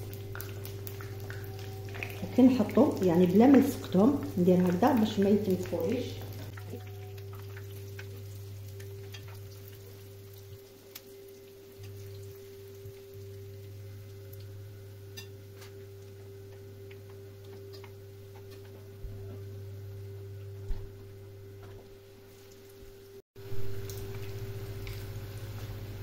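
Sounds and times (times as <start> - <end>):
pastry sizzling in oil: 0.0 - 20.0, 20.7 - 26.0
steady low hum: 0.0 - 22.6.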